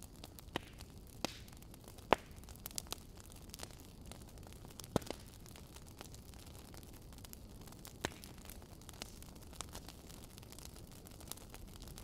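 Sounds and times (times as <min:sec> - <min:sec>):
low steady hiss: 0:00.0 - 0:12.0
wood fire crackling and popping: 0:00.0 - 0:12.0.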